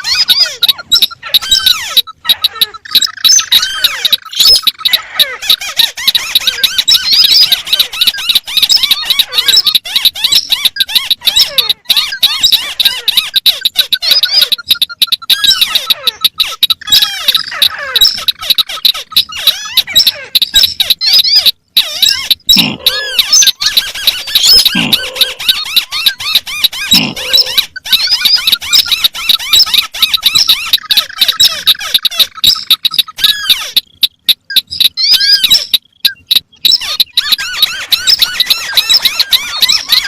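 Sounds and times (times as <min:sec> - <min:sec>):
crakes chattering and chirping: 0:00.0 - 0:40.0
deeper falling bird calls: 0:00.0 - 0:40.0.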